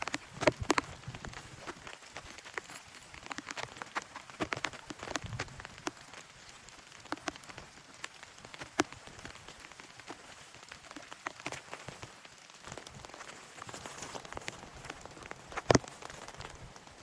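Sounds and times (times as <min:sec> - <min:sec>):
rain falling: 0:00.0 - 0:17.0
raindrops striking close by: 0:00.0 - 0:17.0.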